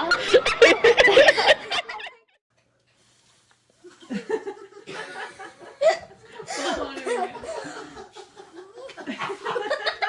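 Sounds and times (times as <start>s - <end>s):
people laughing: 0.0s - 2.4s, 3.9s - 10.0s.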